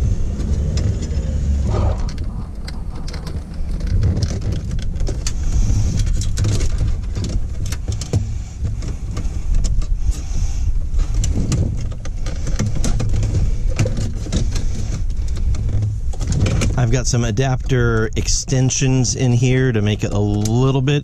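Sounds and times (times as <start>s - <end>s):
rustling: 0.0s - 18.0s
steady low rumble: 0.0s - 21.0s
clicks and rattles of handling: 0.4s - 21.0s.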